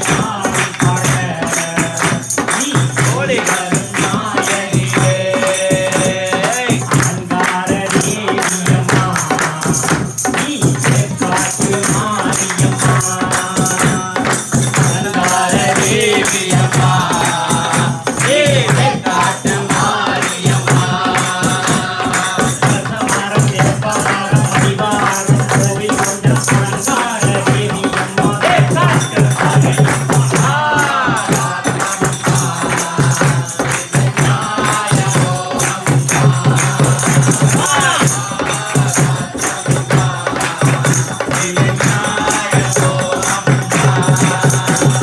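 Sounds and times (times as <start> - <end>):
barrel drum beat: 0.0 - 45.0
group singing along: 0.0 - 45.0
hand clapping: 0.0 - 45.0.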